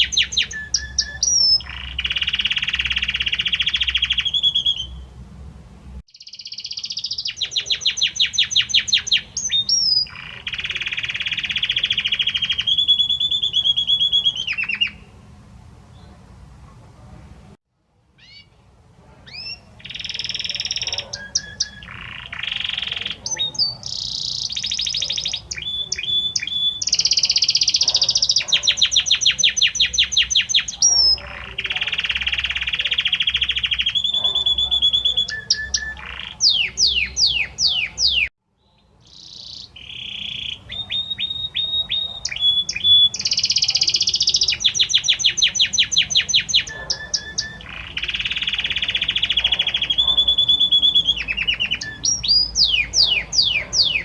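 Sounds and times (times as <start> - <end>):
canary singing: 0.0 - 5.2, 6.1 - 16.2, 18.2 - 54.0.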